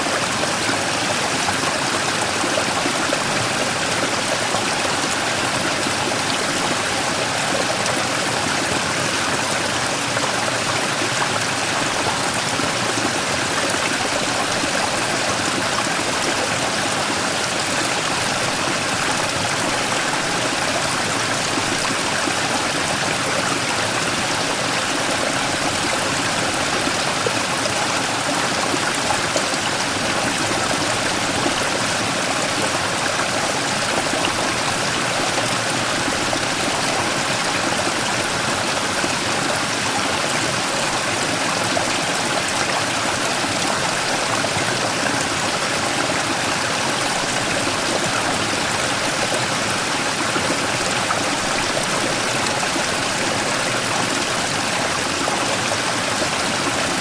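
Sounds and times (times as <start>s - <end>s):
stream flowing around rock: 0.0s - 57.0s.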